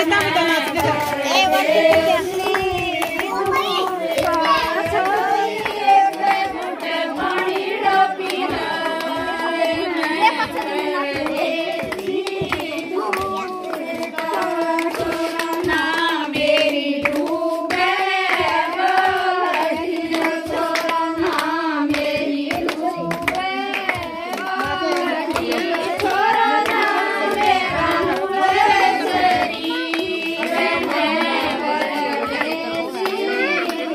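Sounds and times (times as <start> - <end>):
rhythmic hand-clapping: 0.0 - 33.9
women singing folk song: 0.0 - 33.9.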